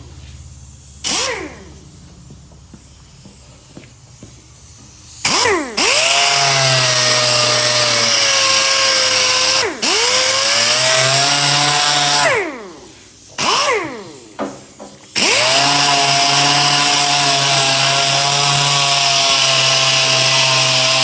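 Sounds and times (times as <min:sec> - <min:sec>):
sander whining and hissing: 0:00.0 - 0:21.0.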